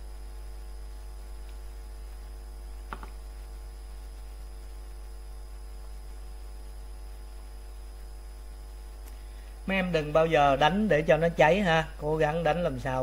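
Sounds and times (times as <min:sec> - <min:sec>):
electrical hum: 0:00.0 - 0:13.0
faint high-pitched whine: 0:00.0 - 0:13.0.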